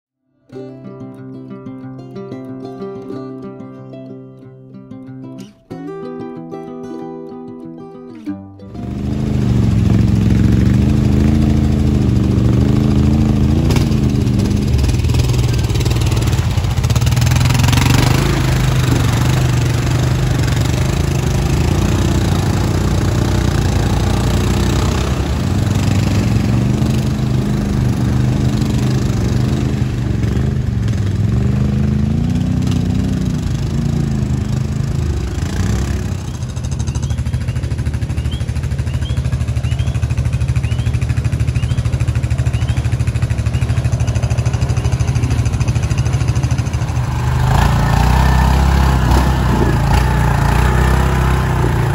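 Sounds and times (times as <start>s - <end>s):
atv engines revving: 8.7s - 51.9s.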